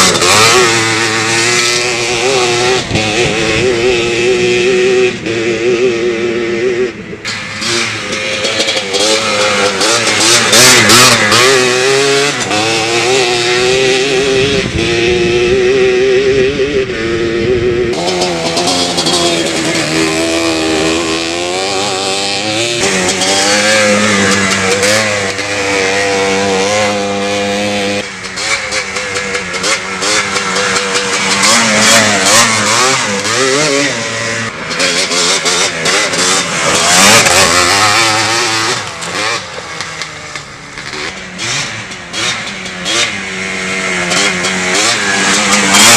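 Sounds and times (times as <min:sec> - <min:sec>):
quad engine revving: 0:00.0 - 0:45.9.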